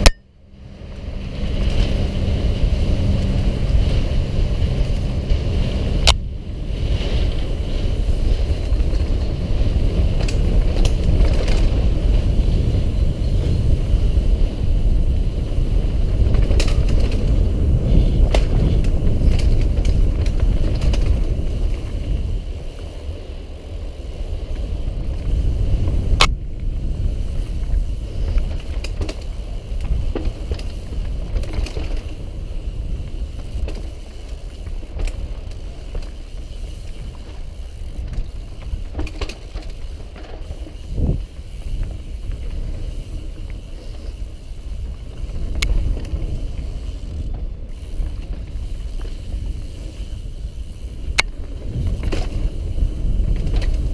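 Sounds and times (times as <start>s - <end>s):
bike clicks and rattles: 0.0s - 53.9s
tyres on dirt: 0.0s - 53.9s
wind on microphone: 1.0s - 53.9s.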